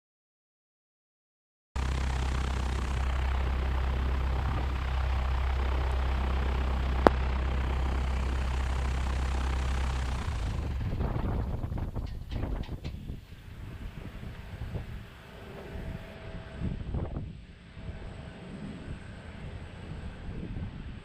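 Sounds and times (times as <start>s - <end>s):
propeller plane engine idling: 1.8s - 21.0s.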